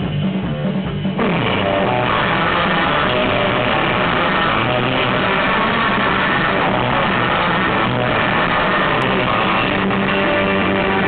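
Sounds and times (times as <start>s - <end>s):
bass guitar: 0.0s - 11.0s
drums: 0.0s - 11.0s
loud electric guitar: 0.0s - 11.0s
surf rock band playing live: 0.0s - 11.0s.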